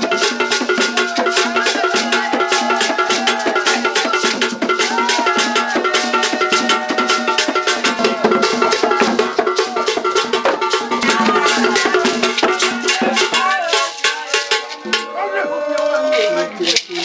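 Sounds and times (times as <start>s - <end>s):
barrel drums beaten in rhythm: 0.0s - 15.3s
voices singing: 0.0s - 16.7s.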